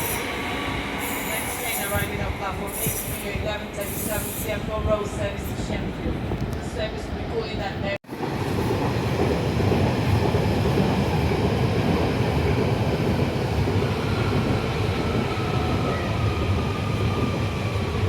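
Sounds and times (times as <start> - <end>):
train rumbling and rattling: 0.0 - 18.0.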